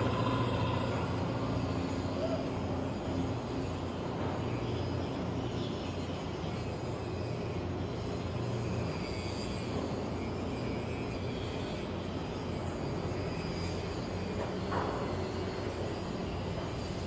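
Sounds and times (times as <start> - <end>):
heavy machinery drone: 0.0 - 17.0.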